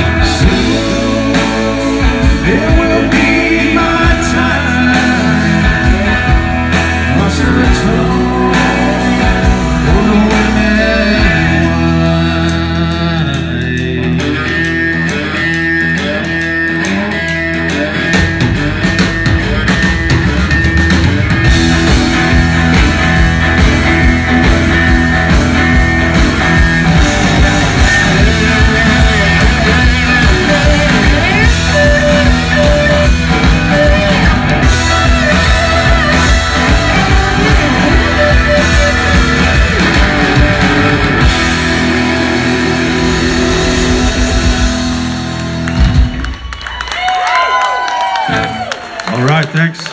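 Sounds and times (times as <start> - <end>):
drum kit: 0.0 - 48.7
bass guitar: 0.0 - 49.9
electric guitars: 0.0 - 49.9.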